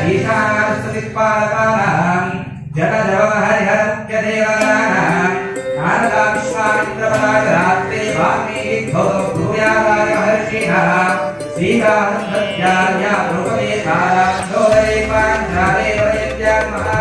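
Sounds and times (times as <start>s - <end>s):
devotional chant-like singing: 0.0s - 17.0s.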